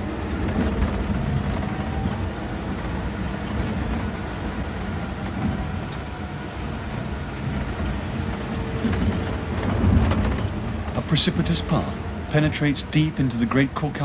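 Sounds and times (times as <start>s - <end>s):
vehicle driving on paved road: 0.0s - 14.0s.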